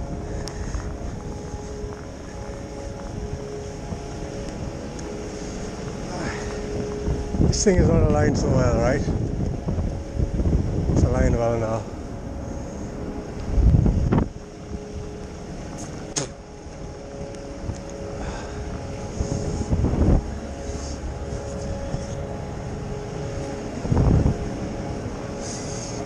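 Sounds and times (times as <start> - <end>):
hum of city traffic: 0.0 - 26.0
wind rumbling on microphone: 0.0 - 26.0.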